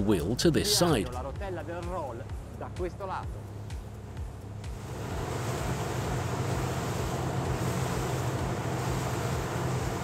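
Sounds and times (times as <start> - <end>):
outboard engine running: 0.0 - 10.0
wind and water hiss: 0.0 - 10.0.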